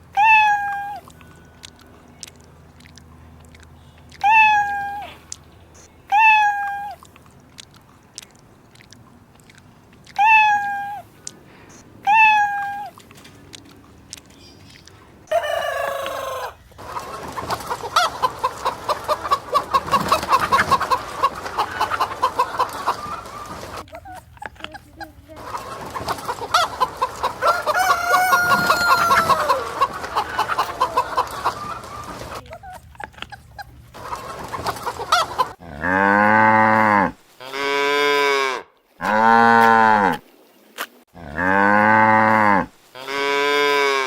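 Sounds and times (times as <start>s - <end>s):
hens clucking: 0.2s - 35.6s.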